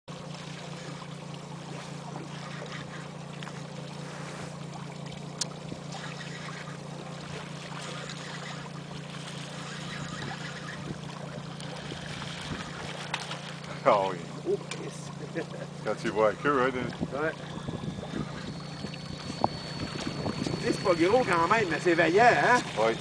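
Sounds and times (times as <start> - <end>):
outboard motor humming: 0.0 - 23.0
wind: 0.0 - 23.0
water noise: 0.1 - 23.0.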